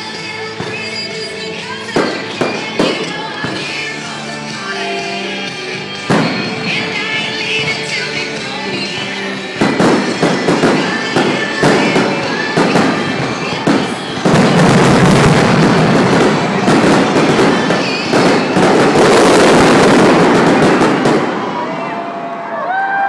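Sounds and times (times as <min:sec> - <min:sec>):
fireworks bursting and crackling: 0:01.5 - 0:04.2, 0:05.4 - 0:22.0.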